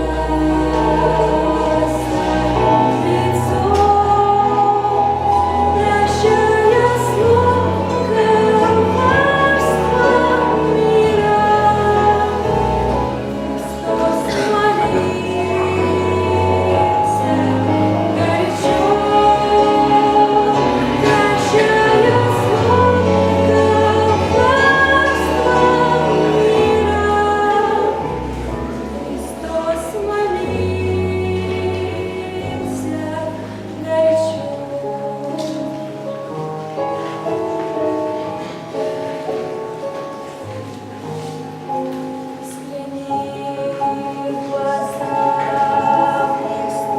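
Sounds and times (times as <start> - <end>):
woman singing: 0.0 - 35.8, 42.0 - 46.9
instrumental accompaniment: 0.0 - 46.9.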